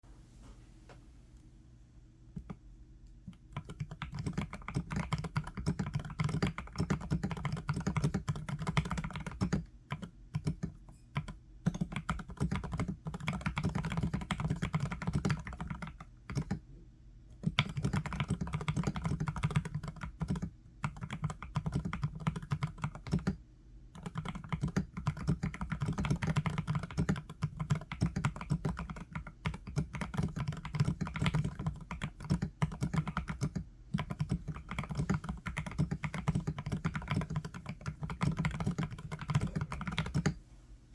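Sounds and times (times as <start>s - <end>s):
fast typing on mechanical keyboard: 3.5s - 16.6s, 17.4s - 40.4s.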